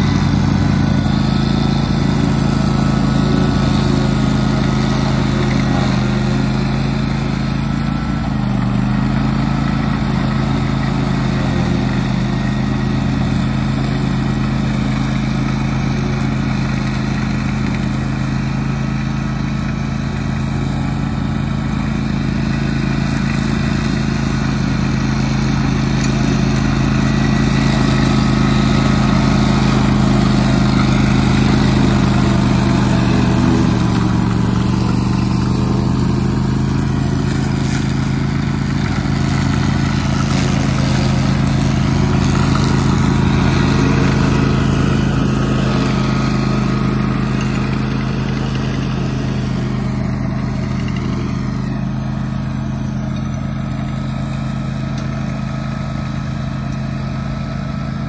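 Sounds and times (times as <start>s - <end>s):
mower cutting tall grass: 0.0s - 58.0s
mower engine running: 0.0s - 58.0s.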